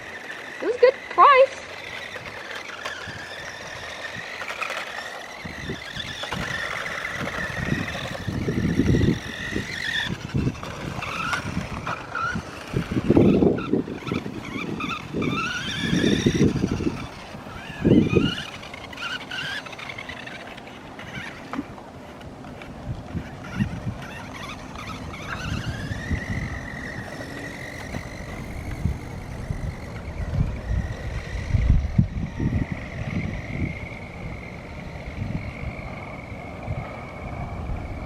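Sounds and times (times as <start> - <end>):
toy truck electric motor whining: 0.0 - 38.0.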